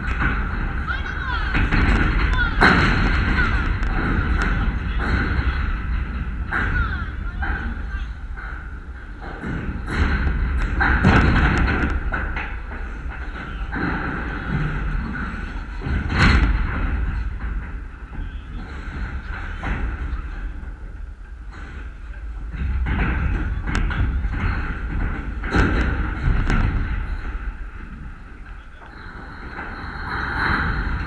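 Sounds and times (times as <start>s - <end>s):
faint indistinct voices: 0.0s - 31.0s
low rumbling and thumps on microphone: 0.0s - 31.0s.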